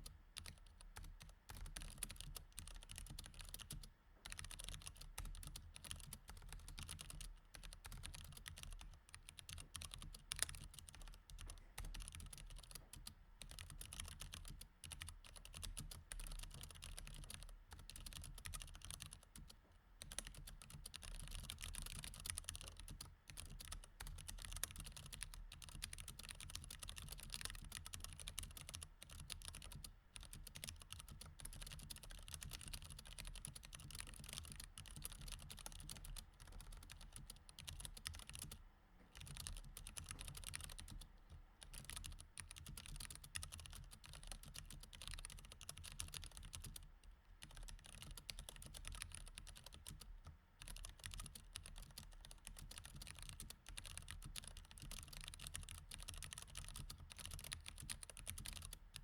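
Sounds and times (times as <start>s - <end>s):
typing on mechanical keyboard: 0.0s - 59.0s.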